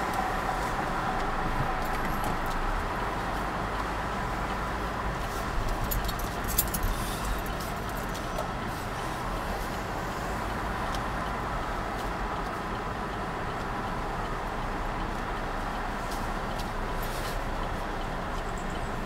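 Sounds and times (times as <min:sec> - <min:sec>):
car engine and road hum: 0:00.0 - 0:19.0.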